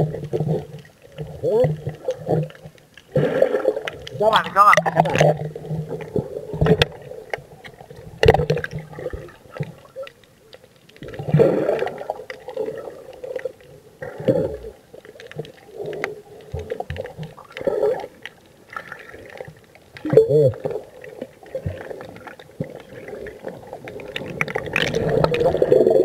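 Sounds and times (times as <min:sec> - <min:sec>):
underwater gurgling and bubbling: 0:00.0 - 0:26.0.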